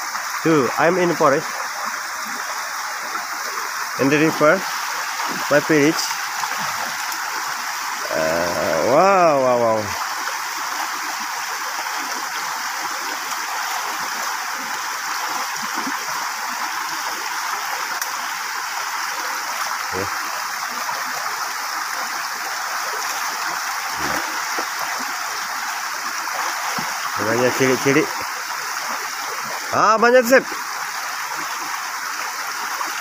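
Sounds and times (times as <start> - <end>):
fast stream rushing: 0.0 - 33.0.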